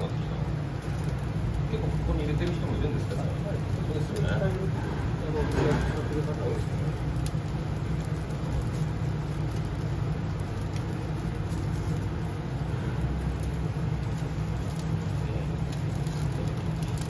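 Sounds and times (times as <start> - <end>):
gas grill rumble and hiss: 0.0 - 17.0.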